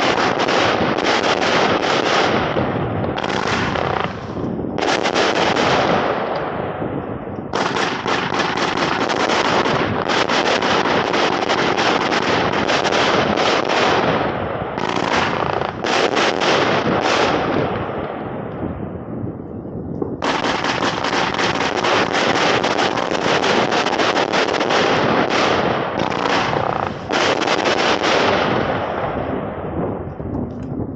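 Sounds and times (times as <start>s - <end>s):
fireworks crackling and popping: 0.0s - 30.9s.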